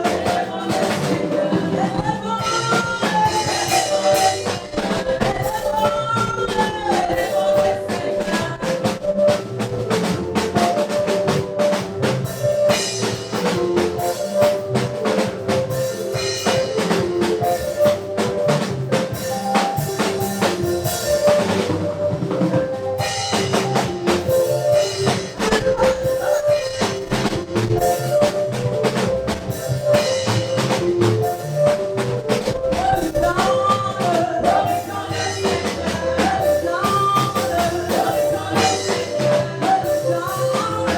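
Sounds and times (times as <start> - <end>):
band playing instrumental: 0.0 - 40.9
drum kit groove: 0.0 - 40.9.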